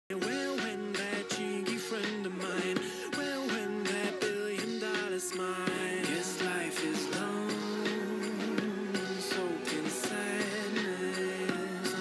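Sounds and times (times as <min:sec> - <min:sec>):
regular drum hits: 0:00.1 - 0:12.0.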